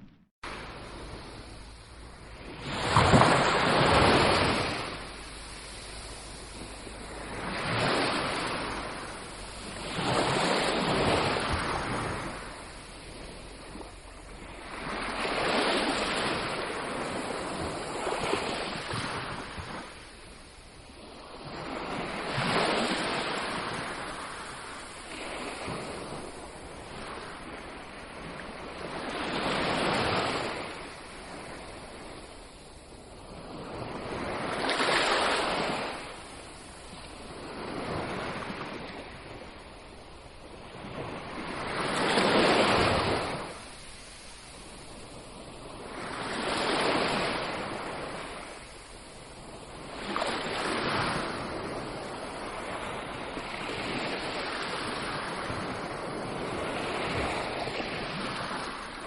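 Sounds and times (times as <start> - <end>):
sea waves breaking on beach: 0.4 - 59.0.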